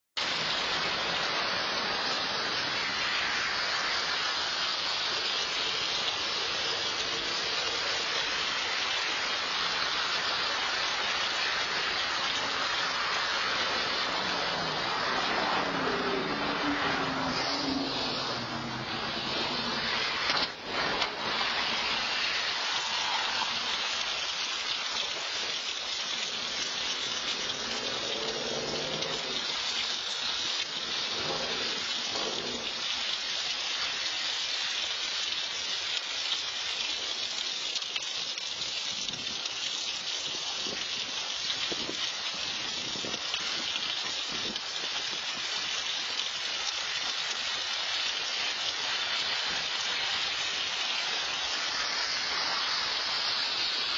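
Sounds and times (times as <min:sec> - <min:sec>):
rain falling on wet street: 0:00.2 - 0:53.9.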